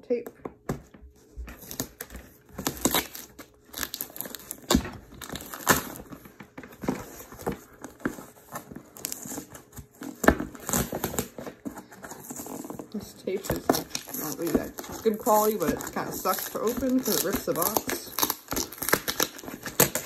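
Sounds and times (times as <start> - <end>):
packing tape ripping off cardboard: 1.5 - 20.0.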